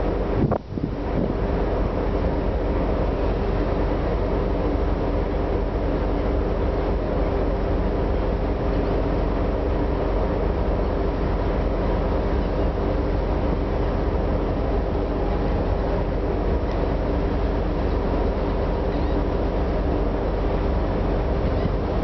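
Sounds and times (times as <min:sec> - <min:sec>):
low machinery hum: 0:00.0 - 0:22.0
wind and sea rushing: 0:00.0 - 0:22.0.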